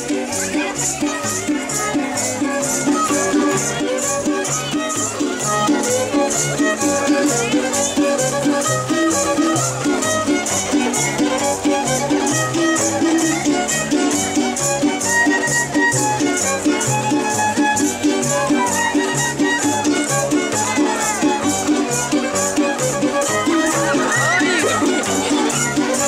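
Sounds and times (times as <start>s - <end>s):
folk dance music: 0.0s - 26.0s
high shaking beat: 0.0s - 26.0s.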